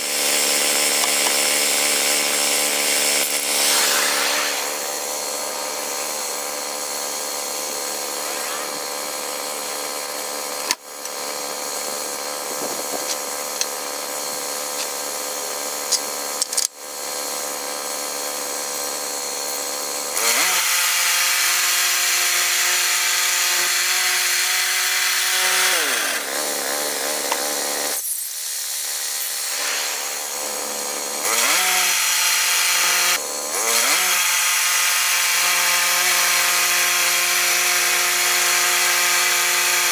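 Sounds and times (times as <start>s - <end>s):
sawmill engine running: 0.0s - 39.8s
band blade cutting log: 0.0s - 39.9s.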